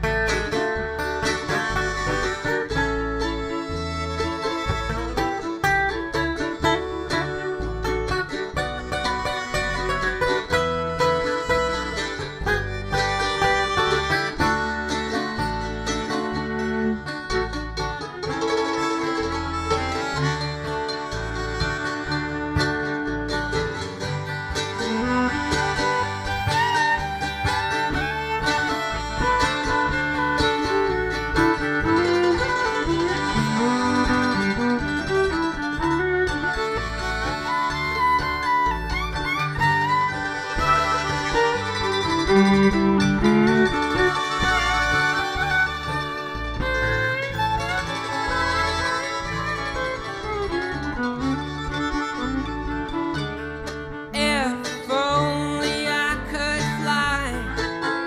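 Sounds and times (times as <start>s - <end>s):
acoustic string band playing: 0.0s - 58.0s
sliding wavering lead melody: 0.0s - 58.0s.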